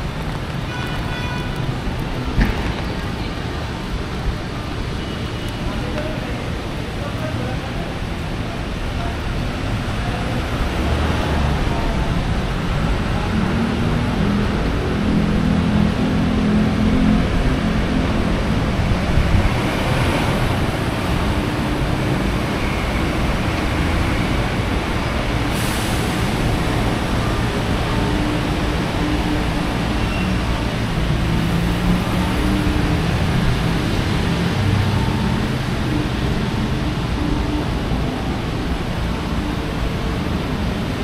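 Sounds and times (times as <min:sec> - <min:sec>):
heavy rain and wind: 0:00.0 - 0:41.0.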